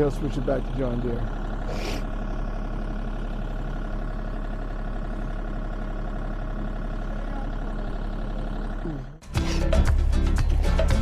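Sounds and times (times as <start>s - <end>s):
excavator diesel engine idling: 0.0s - 11.0s.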